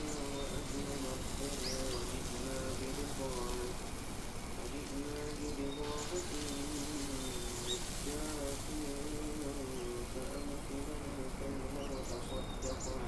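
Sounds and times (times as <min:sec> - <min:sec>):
faint high bird chirps: 0:00.0 - 0:03.7, 0:04.9 - 0:08.5, 0:09.6 - 0:13.0
man chanting melodically: 0:00.0 - 0:13.0.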